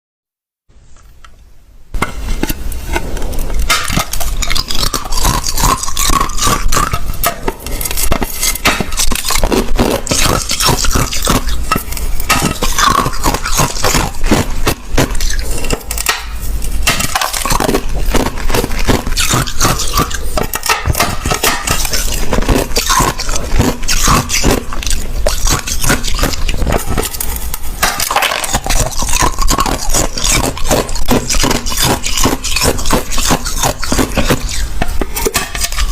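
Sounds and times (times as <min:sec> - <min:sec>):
chewing crushed ice: 0:03.2 - 0:35.9.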